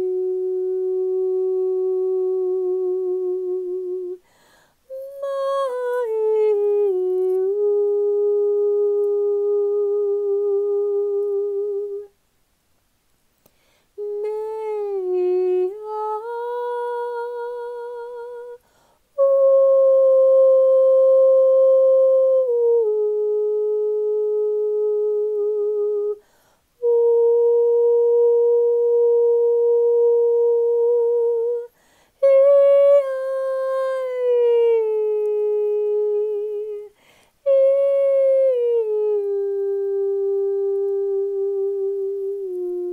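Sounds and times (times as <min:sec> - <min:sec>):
woman singing long wordless notes: 0:00.0 - 0:12.2, 0:13.9 - 0:42.9.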